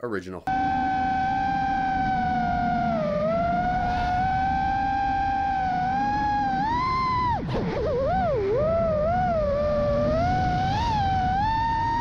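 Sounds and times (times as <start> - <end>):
drone motors whining: 0.5 - 12.0
rushing noise: 0.5 - 12.0.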